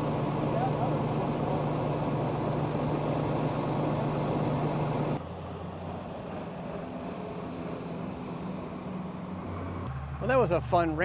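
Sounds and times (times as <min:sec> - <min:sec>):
fire engine idling: 0:00.0 - 0:09.9
distant engine hum: 0:00.0 - 0:11.0.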